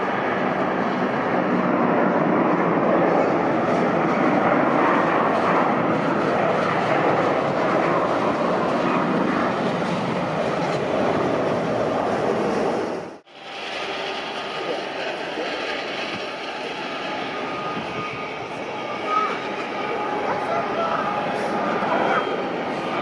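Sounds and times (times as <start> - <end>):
jet engine roar at takeoff: 0.0 - 23.0.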